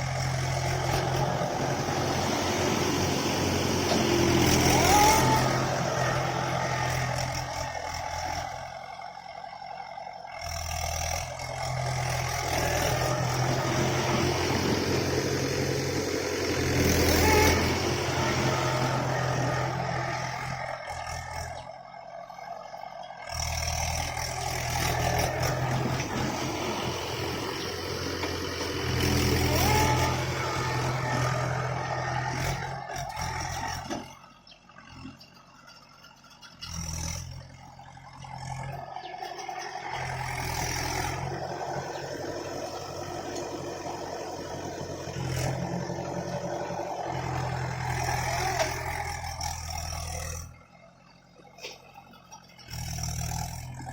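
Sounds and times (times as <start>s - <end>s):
tractor engines revving: 0.0s - 53.9s.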